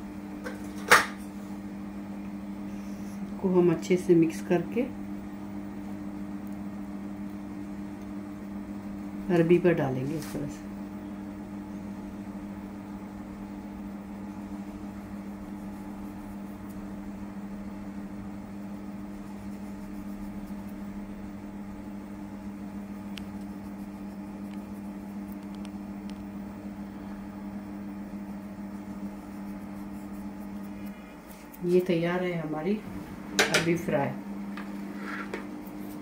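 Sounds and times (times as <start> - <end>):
appliance motor humming: 2.2 - 36.0.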